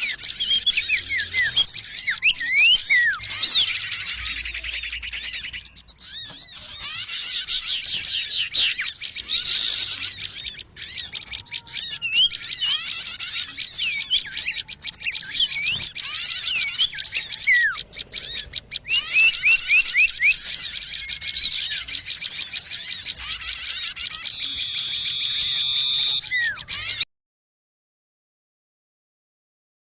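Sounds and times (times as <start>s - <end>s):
small birds chirping: 0.0s - 27.1s.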